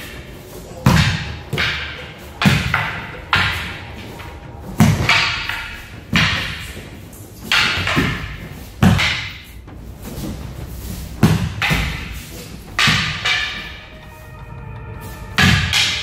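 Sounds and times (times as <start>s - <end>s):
wooden swords clacking: 0.0s - 16.0s.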